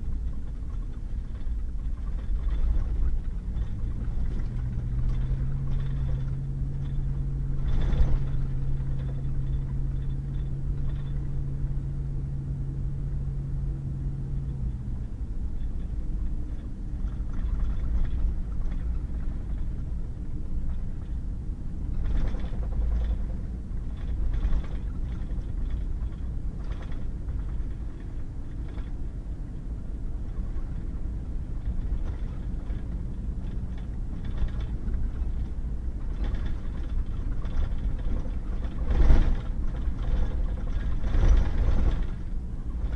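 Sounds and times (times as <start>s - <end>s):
engine drone: 0.0s - 42.9s
truck engine and tyres rumbling: 0.0s - 42.9s.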